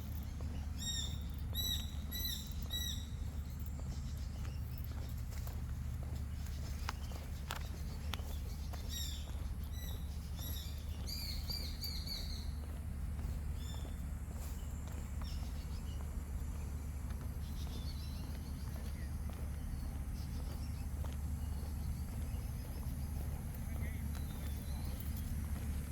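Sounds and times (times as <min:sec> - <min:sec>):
birds chirping: 0:00.0 - 0:25.9
low background rumble: 0:00.0 - 0:25.9.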